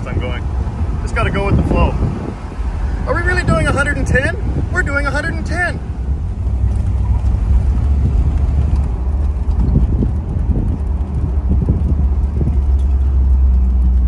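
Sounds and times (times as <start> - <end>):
car engine drone: 0.0 - 14.0
road and wind noise: 0.0 - 14.0.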